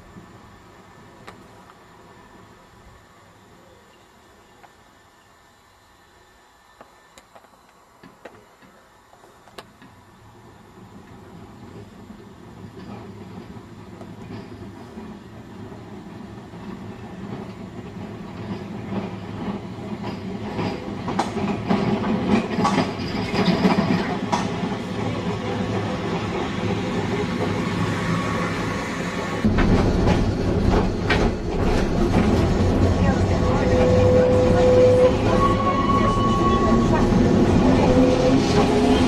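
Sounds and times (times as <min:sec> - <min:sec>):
electric tram low hum: 0:00.0 - 0:39.0.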